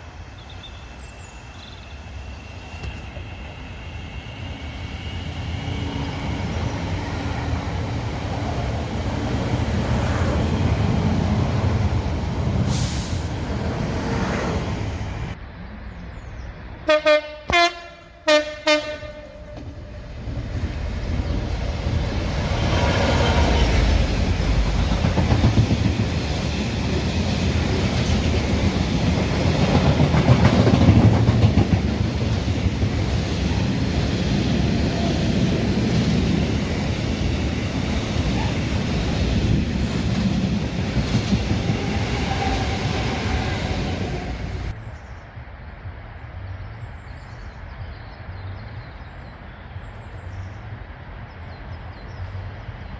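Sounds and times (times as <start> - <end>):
train passing at speed: 0.0 - 52.9.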